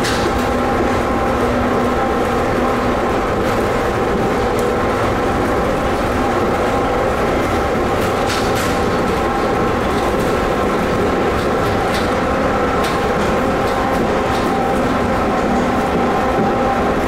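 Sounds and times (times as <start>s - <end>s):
train rolling rumble: 0.0s - 17.0s.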